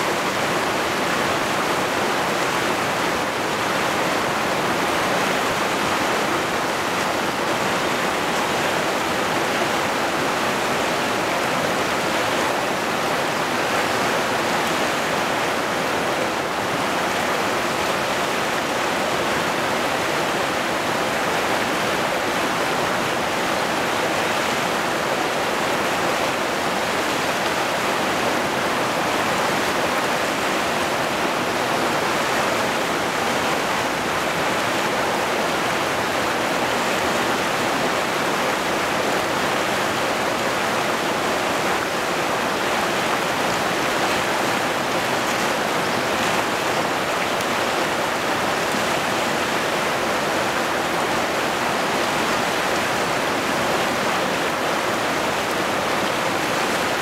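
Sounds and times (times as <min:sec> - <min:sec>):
river rushing through rapids: 0:00.0 - 0:57.0.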